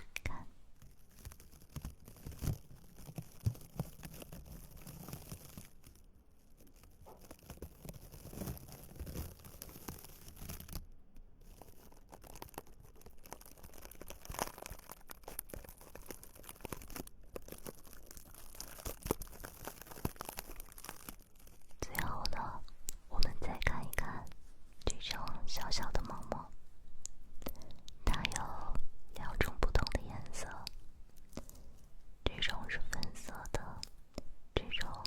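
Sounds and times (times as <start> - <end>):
dried flowers rustling and crackling: 0.0 - 35.0.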